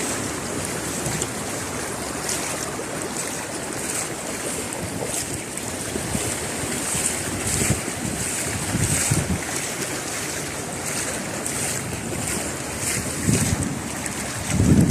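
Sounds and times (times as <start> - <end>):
heavy rain: 0.0 - 14.9
wind buffeting microphone: 0.0 - 14.9.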